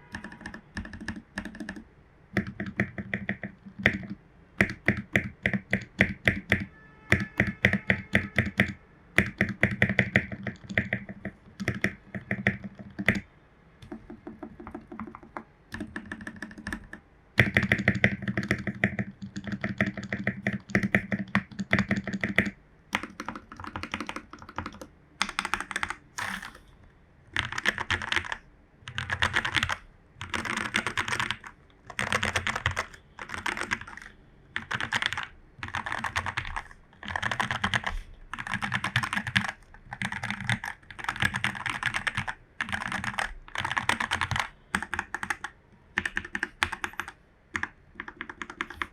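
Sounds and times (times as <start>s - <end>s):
mechanical keyboard typing: 0.0s - 13.2s, 13.8s - 26.7s, 27.3s - 48.9s.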